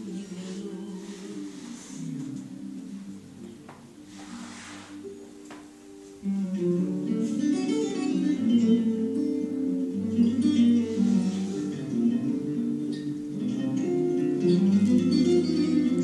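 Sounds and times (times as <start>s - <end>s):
instrumental accompaniment music: 0.0s - 16.0s.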